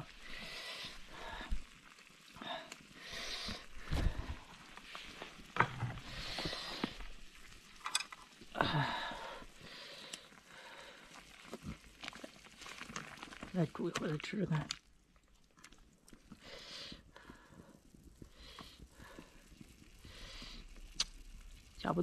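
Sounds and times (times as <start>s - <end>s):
stirring in simmering pot: 0.0s - 22.0s.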